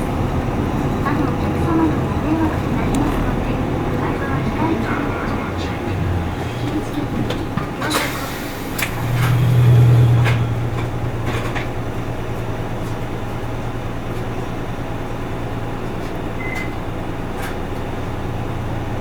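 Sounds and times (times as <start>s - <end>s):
bus diesel engine drone: 0.0s - 19.0s.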